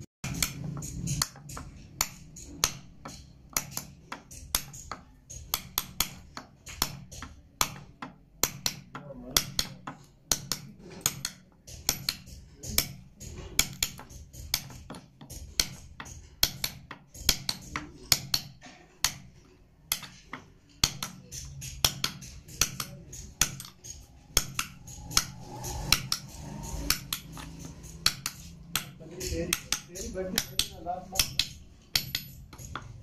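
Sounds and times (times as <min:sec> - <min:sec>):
chisel tapping into wood: 0:00.2 - 0:33.0.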